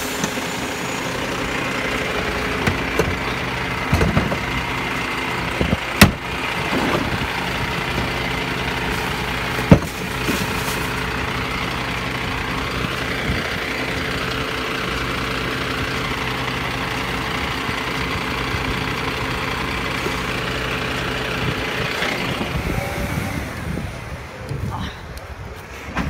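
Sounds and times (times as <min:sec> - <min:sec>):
garbage truck engine idling: 0:00.0 - 0:26.0.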